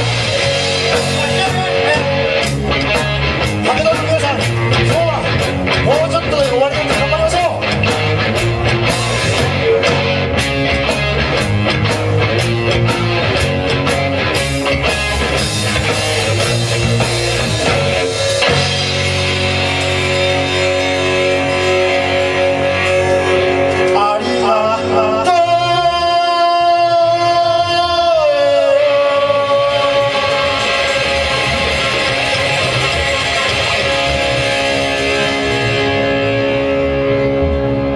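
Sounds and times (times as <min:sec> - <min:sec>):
rock band music: 0:00.0 - 0:37.9.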